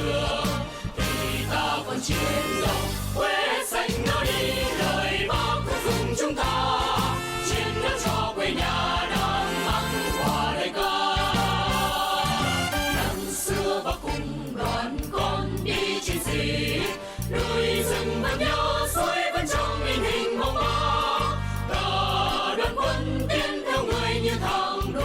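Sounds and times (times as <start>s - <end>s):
choir singing: 0.0s - 25.0s
instrumental accompaniment: 0.0s - 25.0s.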